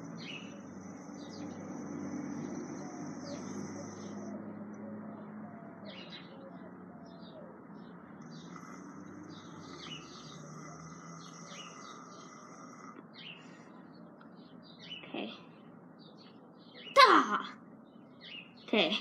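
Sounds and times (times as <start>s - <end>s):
bird trill: 0.0s - 4.3s, 5.2s - 15.2s, 16.0s - 18.8s
birds chirping: 0.0s - 19.0s.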